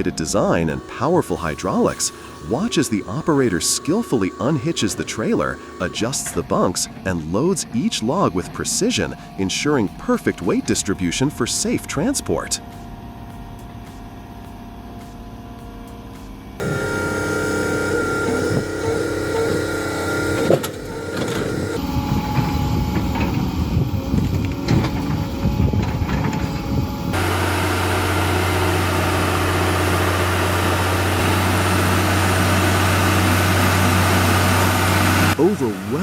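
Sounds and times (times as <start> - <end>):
diesel truck engines running: 0.6 - 11.8, 16.6 - 36.0.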